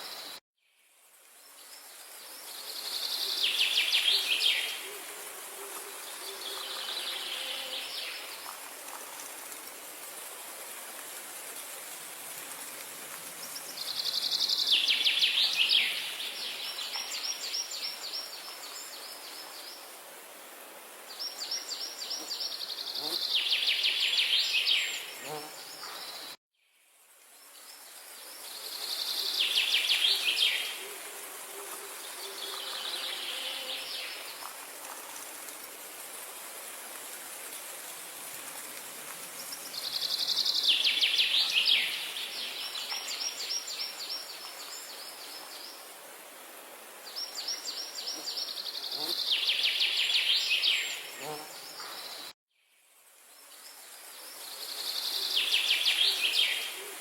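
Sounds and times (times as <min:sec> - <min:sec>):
high ambient hiss: 0:00.0 - 0:57.0.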